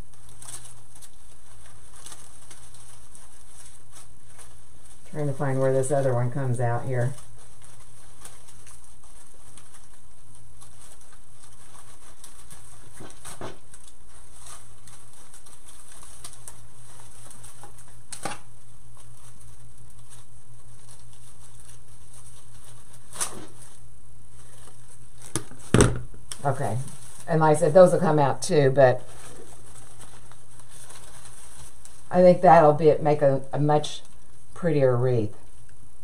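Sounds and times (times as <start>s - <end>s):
faint rustling of stems: 0.0s - 36.0s
steady low hum: 0.0s - 36.0s.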